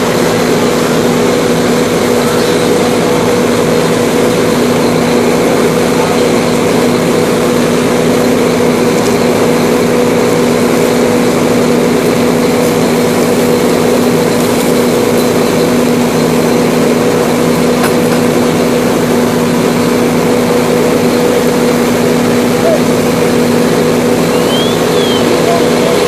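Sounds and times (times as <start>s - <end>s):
fire engine pump droning: 0.0s - 26.0s.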